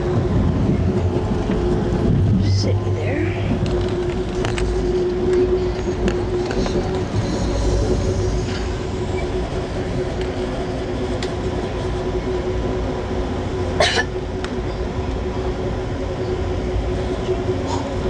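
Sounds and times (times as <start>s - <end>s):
steady hum: 0.0s - 18.0s
train coach rumbling on rails: 0.0s - 18.0s.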